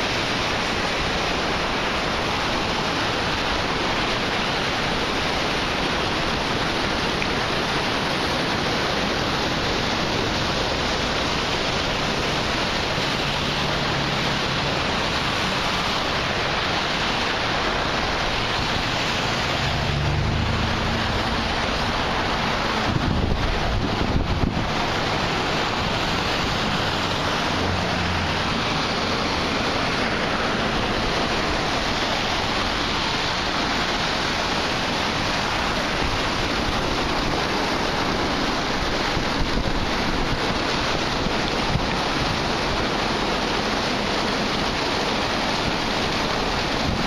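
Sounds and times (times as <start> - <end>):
floodwater rushing: 0.0 - 47.0.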